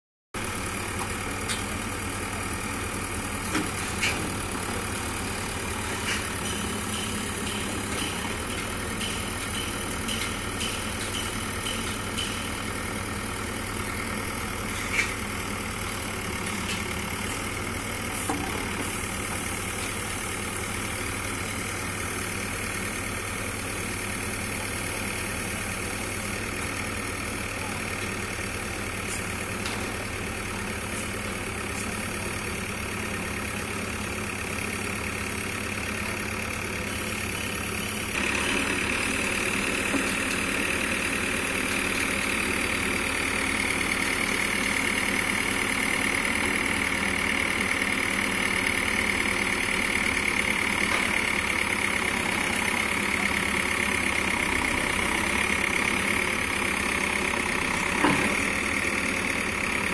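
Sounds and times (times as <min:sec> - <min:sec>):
diesel engine running: 0:00.4 - 0:59.9.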